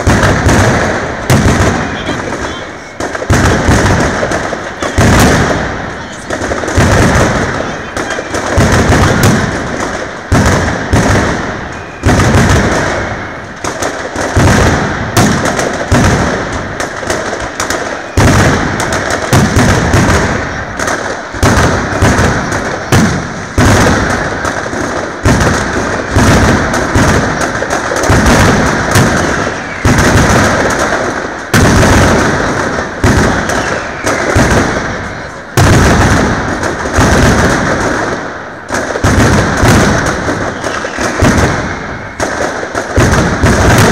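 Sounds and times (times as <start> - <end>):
firecracker bangs: 0.0 - 43.9.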